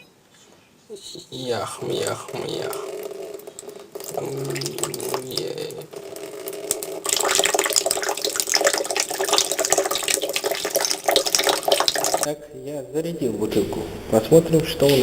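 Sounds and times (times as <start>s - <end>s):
steady hum: 0.0s - 9.4s, 12.3s - 15.0s.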